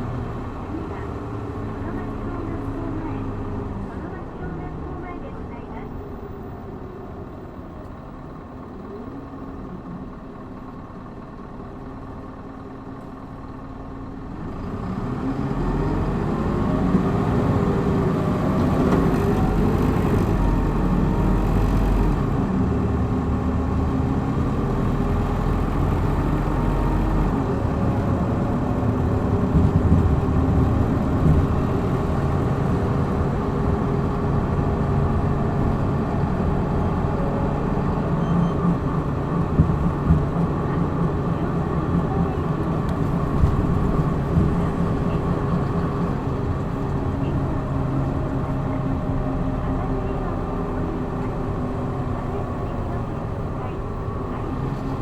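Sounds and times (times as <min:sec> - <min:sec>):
bus diesel engine accelerating: 0:00.0 - 0:55.0.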